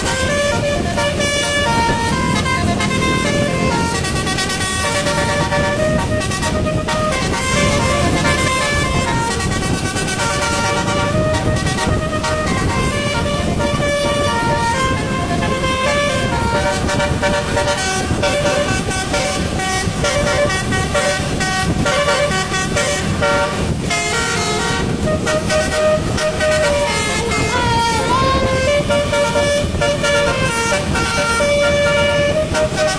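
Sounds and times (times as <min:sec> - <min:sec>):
engine and road rumble: 0:00.0 - 0:32.9
musical air horn tune: 0:00.0 - 0:32.9.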